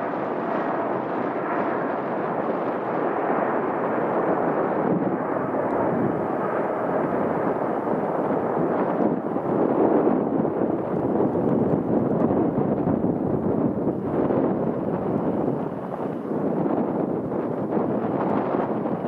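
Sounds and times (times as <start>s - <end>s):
jet engines rumbling at takeoff: 0.0s - 19.0s.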